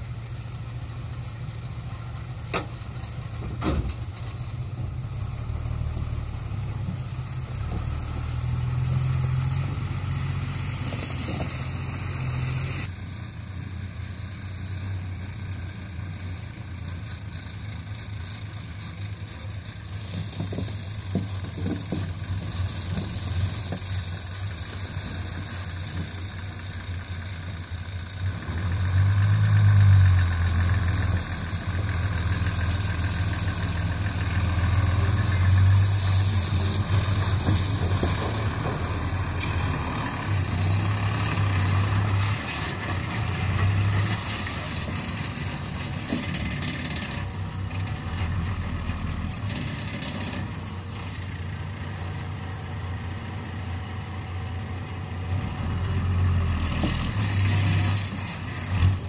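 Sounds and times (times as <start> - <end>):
dump truck diesel engine: 0.0 - 59.0.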